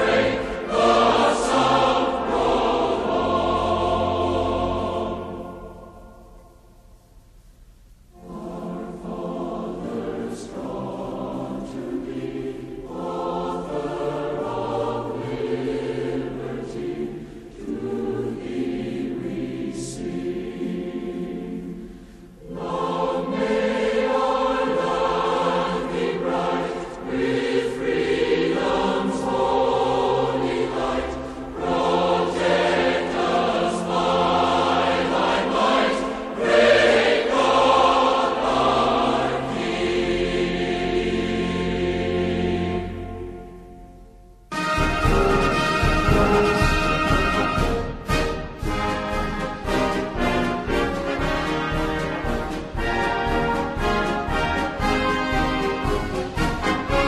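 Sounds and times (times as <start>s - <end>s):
choral music with sung chords: 0.0s - 57.0s.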